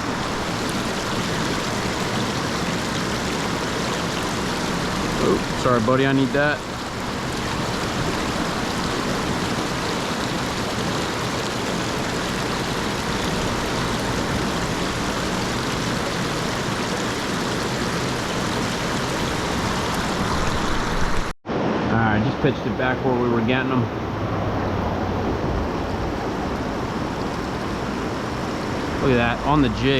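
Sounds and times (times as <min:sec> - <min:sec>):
stream water rushing: 0:00.0 - 0:21.9, 0:22.9 - 0:29.9.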